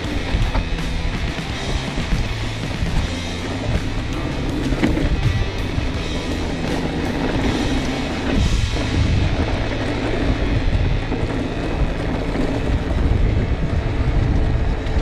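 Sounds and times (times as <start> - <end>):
mountain bike rumble and rattle: 0.0 - 15.0
wind on microphone: 0.0 - 15.0.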